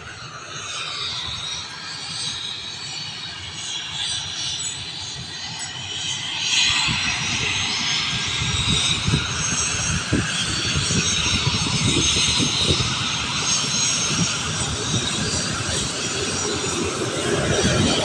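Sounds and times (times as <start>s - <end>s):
turbine engine whine: 0.0s - 18.0s.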